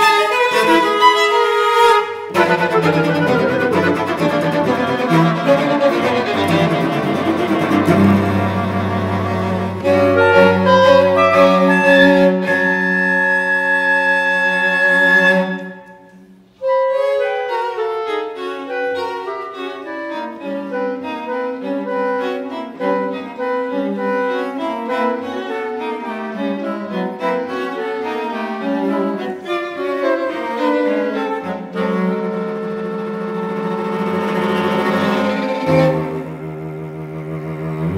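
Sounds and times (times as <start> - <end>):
flute clarinet violin cello quartet: 0.0 - 37.9.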